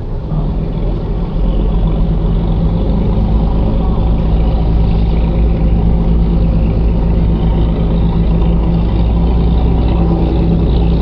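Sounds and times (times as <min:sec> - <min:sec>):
ferry engine humming: 0:00.0 - 0:11.0.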